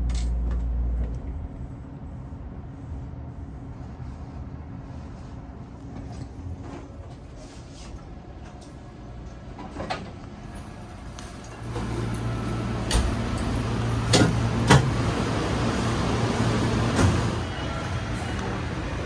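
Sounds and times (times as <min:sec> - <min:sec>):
low hum of standing trains: 0:00.0 - 0:19.0.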